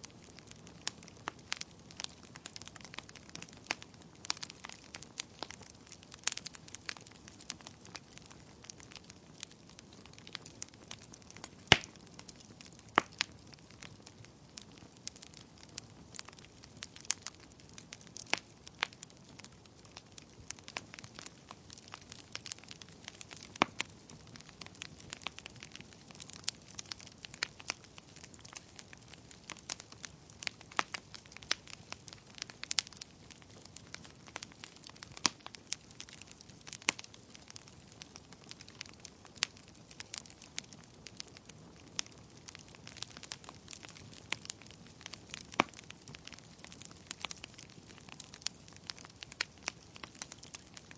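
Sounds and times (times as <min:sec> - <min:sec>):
fire popping: 0:00.0 - 0:50.9
logs crackling: 0:00.3 - 0:50.9.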